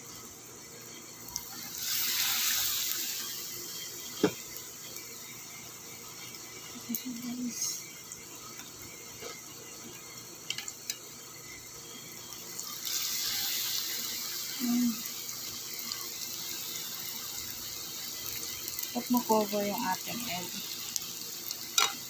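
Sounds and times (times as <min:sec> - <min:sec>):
eggs deep-frying in oil: 0:00.0 - 0:22.0.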